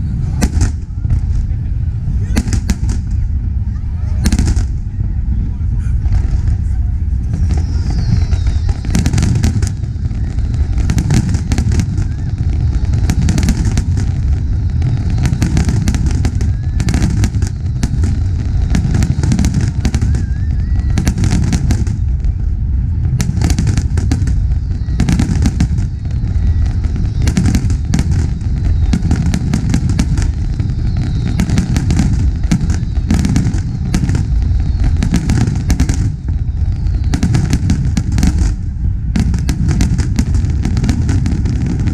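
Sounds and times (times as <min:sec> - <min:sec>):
fireworks bursts and crackles: 0:00.0 - 0:41.9
low rumble: 0:00.0 - 0:41.9.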